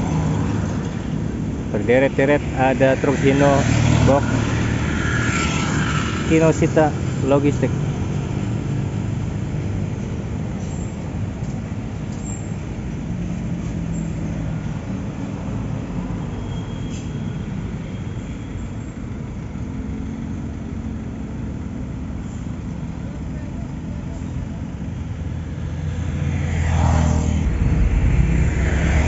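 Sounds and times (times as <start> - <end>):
trucks passing on highway: 0.0 - 29.0.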